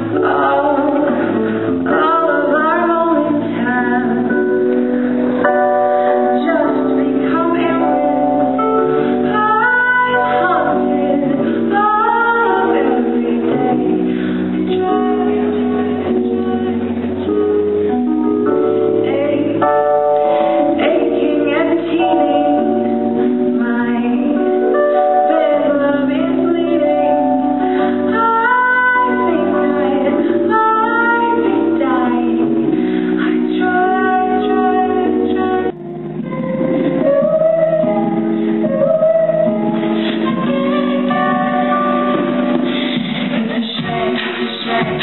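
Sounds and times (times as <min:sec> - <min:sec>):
sustained instrumental chords: 0:00.0 - 0:45.0
woman singing: 0:00.0 - 0:45.0.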